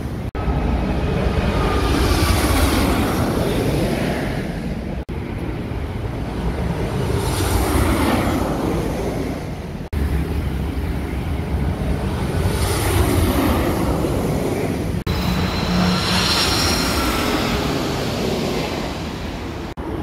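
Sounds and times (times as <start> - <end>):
jet engine whine: 0.0 - 20.0
road traffic rumble: 0.0 - 20.0.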